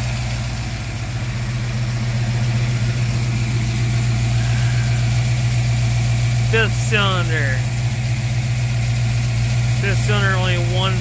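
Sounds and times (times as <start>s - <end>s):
misfiring car engine idling: 0.0s - 11.0s.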